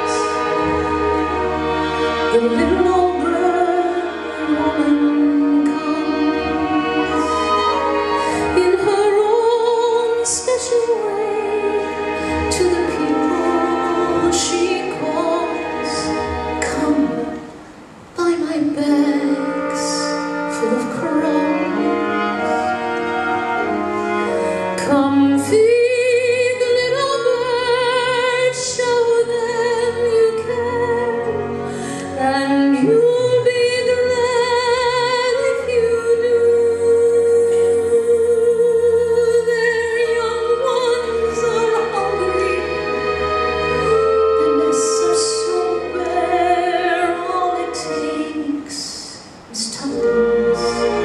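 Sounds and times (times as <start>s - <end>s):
orchestral accompaniment with strings: 0.0s - 51.0s.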